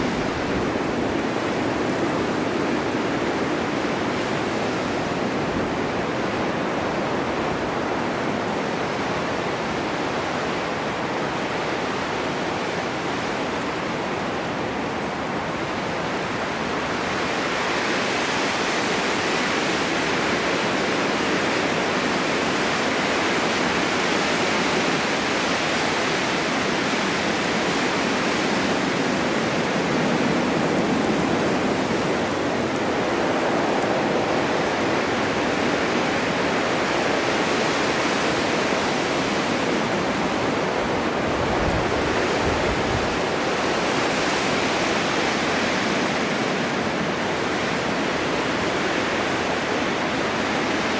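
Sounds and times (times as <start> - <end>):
snowstorm wind blowing: 0.0 - 50.9.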